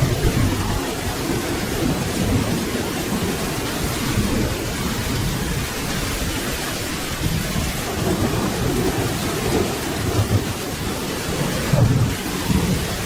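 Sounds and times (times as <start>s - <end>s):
distant thunder rumbling: 0.0s - 13.0s
rain falling: 0.0s - 13.0s.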